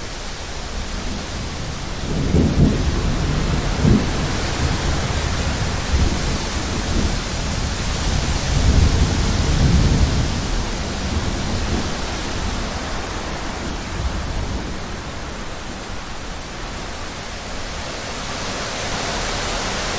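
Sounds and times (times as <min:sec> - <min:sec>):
heavy rain hiss: 0:00.0 - 0:19.9
rolling thunder rumble: 0:00.6 - 0:17.7.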